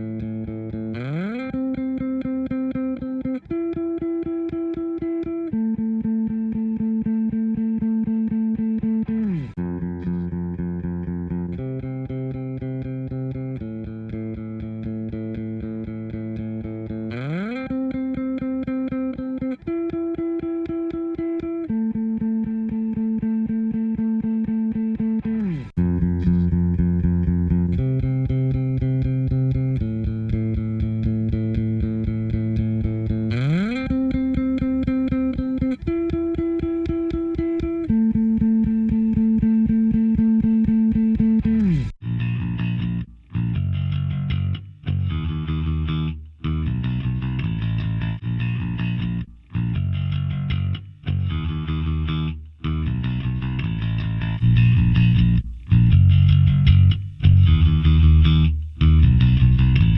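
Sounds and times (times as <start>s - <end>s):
electric guitar riff: 0.0s - 59.9s.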